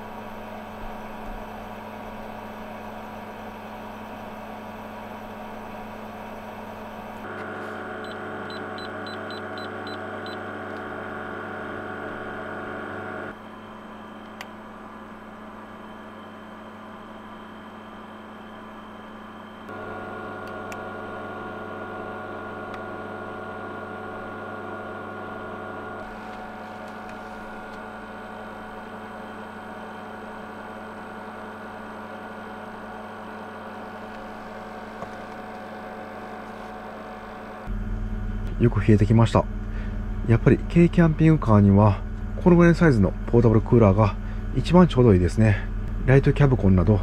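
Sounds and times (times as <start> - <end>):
air conditioner humming: 0.0 - 47.0.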